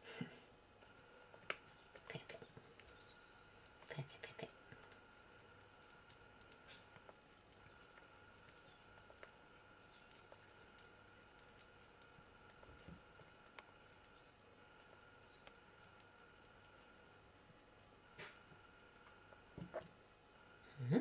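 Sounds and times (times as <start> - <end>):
faint steady hum: 0.0 - 21.0
squirrel licking and chewing: 0.8 - 20.7.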